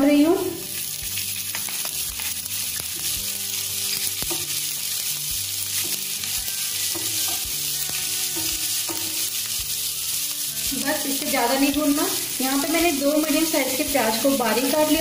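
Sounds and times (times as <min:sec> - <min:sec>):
spices sizzling in hot oil: 0:00.0 - 0:15.0
spatula tapping and scraping pan: 0:00.8 - 0:15.0.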